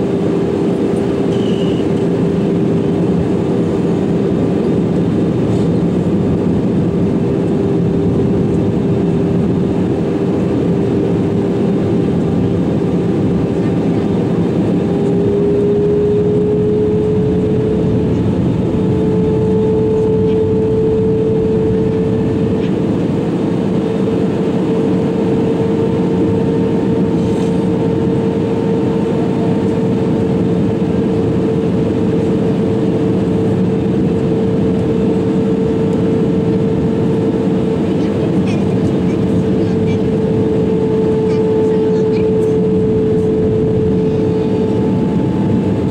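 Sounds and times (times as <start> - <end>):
loud engine whine: 0.0 - 45.9
rush of engine and airflow: 0.0 - 45.9.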